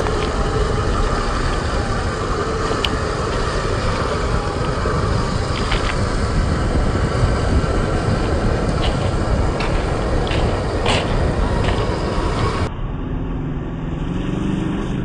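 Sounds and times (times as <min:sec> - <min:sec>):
rc crawler motor and gears running: 0:00.0 - 0:12.7.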